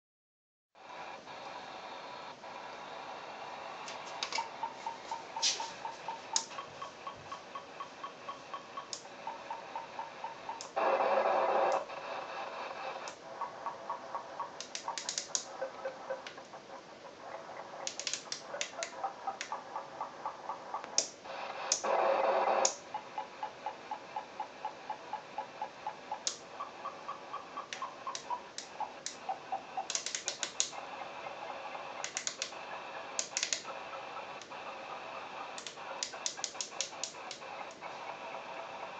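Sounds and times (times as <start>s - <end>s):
radio buzz: 0.8s - 38.9s.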